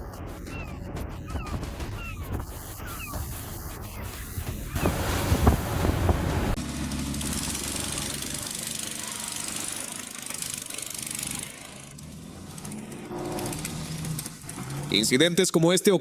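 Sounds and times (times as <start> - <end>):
engine running steadily: 0.0 - 15.2
loud rough rumble: 0.8 - 15.2.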